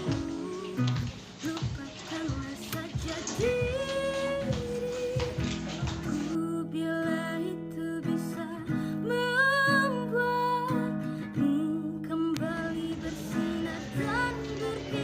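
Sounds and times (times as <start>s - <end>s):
acoustic guitar: 0.0s - 15.0s
person singing: 0.0s - 15.0s.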